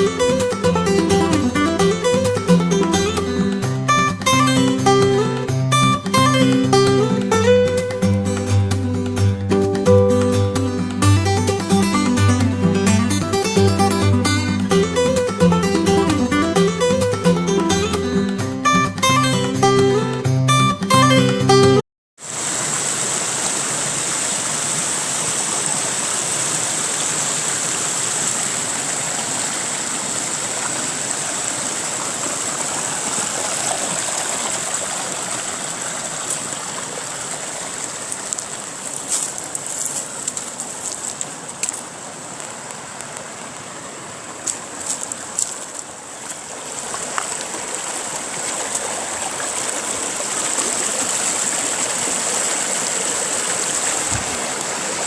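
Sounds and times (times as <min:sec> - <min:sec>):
stream rushing over rocks: 0:00.0 - 0:20.6, 0:22.2 - 0:55.0.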